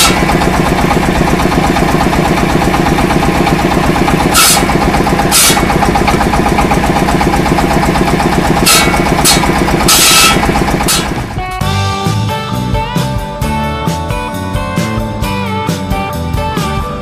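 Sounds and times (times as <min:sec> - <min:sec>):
engine running with rapid pulse: 0:00.0 - 0:13.6.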